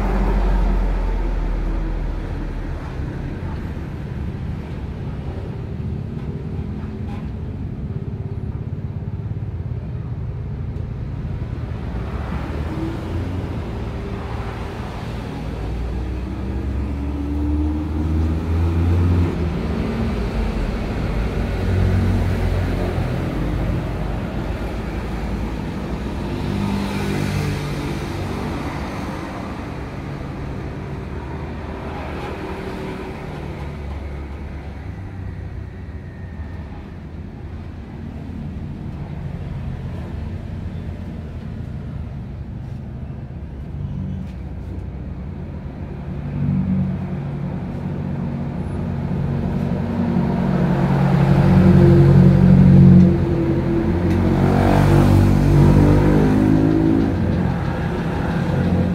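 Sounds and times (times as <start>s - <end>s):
vehicle engines and traffic: 0.0s - 58.9s.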